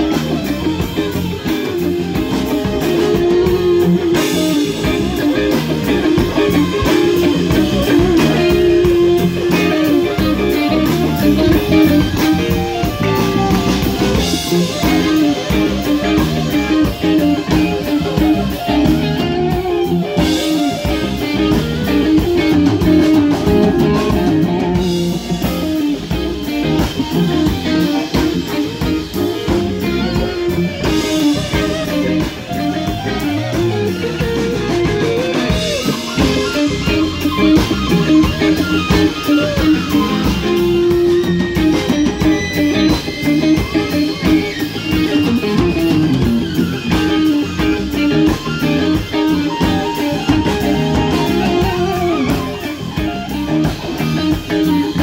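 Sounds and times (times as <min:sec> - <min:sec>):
bass guitar: 0:00.0 - 0:55.0
drum kit: 0:00.0 - 0:55.0
electric guitars: 0:00.0 - 0:55.0.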